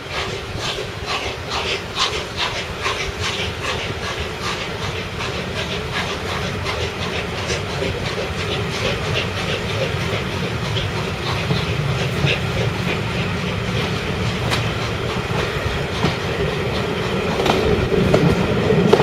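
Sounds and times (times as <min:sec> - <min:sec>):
steady hiss of steam: 0:00.0 - 0:19.0
steam locomotive exhaust chuffing: 0:00.0 - 0:19.0.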